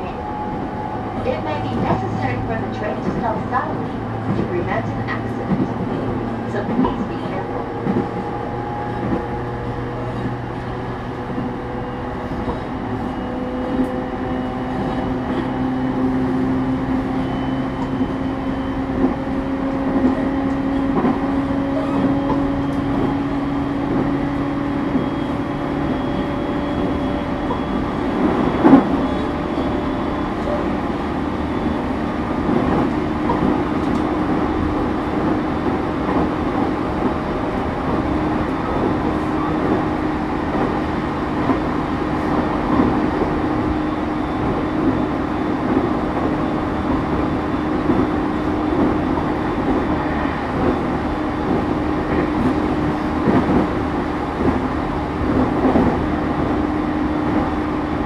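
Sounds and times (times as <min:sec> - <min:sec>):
wheel and rail rumble: 0:00.0 - 0:58.0.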